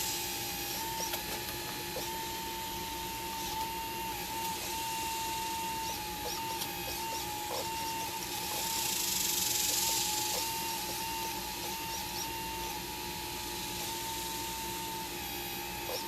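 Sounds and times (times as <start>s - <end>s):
hydraulic pump whining: 0.0s - 16.0s
hydraulic hiss: 1.9s - 14.8s.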